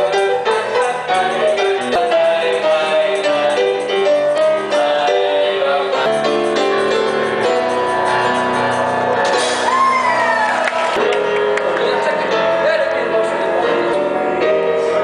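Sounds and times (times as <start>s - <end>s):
piano playing: 0.0s - 15.0s.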